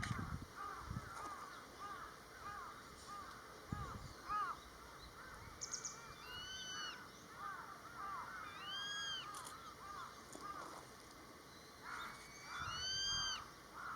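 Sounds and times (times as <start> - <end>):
short lower bird calls: 1.3 - 10.6, 11.8 - 13.9.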